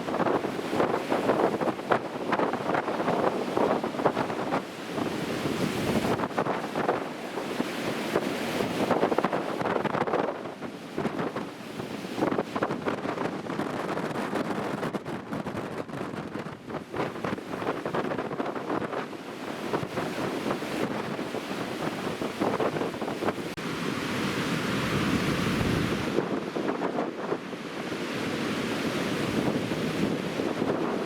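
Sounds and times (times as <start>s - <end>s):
wind buffeting microphone: 0.0s - 23.6s, 24.3s - 31.0s
heavy surf breaking: 0.0s - 31.0s.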